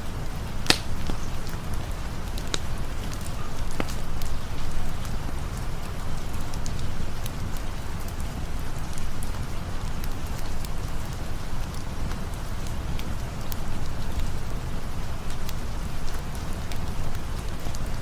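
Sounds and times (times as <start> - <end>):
sharp ticks and crackles: 0.0 - 18.0
steady rain falling: 0.0 - 18.0.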